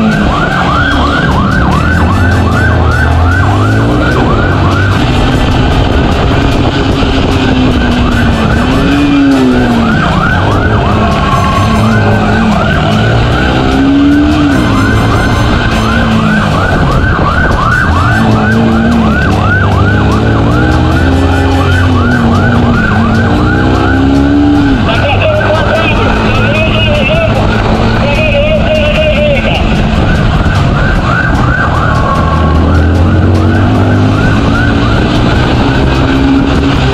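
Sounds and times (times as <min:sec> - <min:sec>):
motorcycle engine: 0:00.0 - 0:36.9
police siren yelping: 0:00.0 - 0:36.9.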